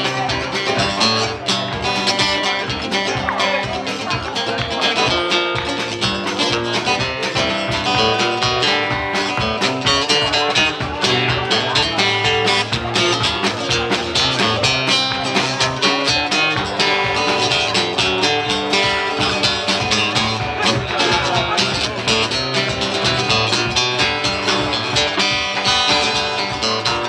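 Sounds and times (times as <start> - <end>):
acoustic guitar strumming: 0.0 - 27.0
drum kit: 0.0 - 27.0.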